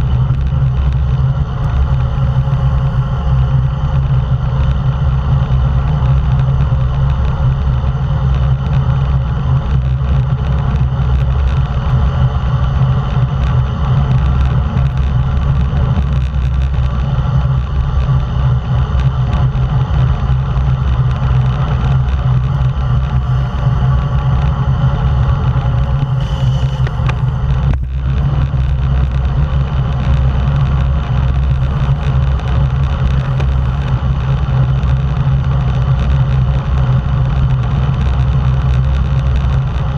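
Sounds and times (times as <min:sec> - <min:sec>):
bicycle road noise: 0:00.0 - 0:39.9
wind rushing over microphone: 0:00.0 - 0:39.9.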